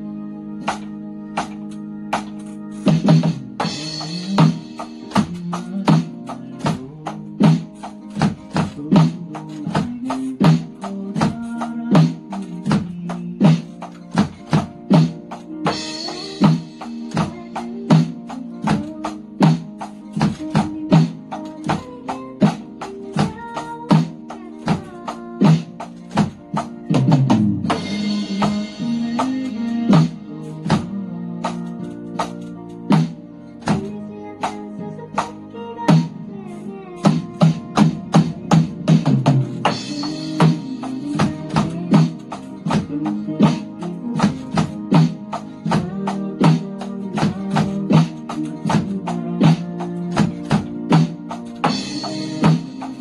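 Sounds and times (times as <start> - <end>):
electronic drum kit beat: 0.0 - 53.0
pop song with guitar: 0.0 - 53.0.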